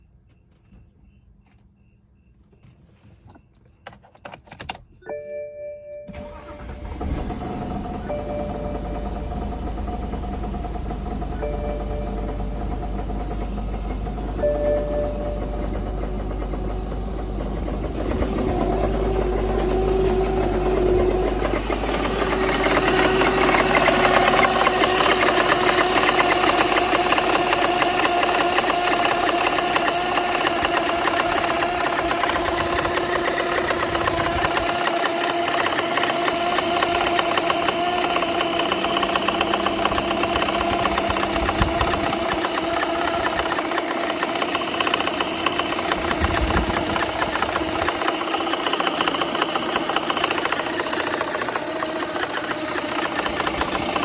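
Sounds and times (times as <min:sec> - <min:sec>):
car engine running: 0:06.1 - 0:54.0
rapid engine knocking: 0:06.3 - 0:54.0.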